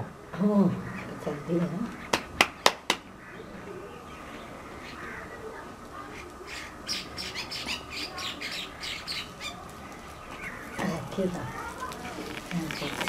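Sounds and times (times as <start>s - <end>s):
birds chirping and squawking: 0.6s - 13.0s.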